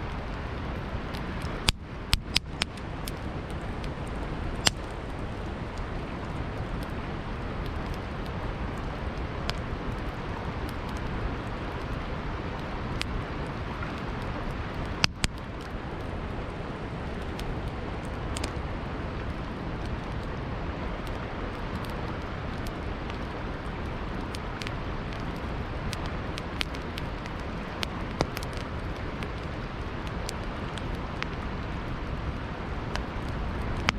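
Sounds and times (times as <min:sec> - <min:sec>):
campfire crackling and popping: 0:00.0 - 0:33.9
river flowing: 0:00.0 - 0:33.9.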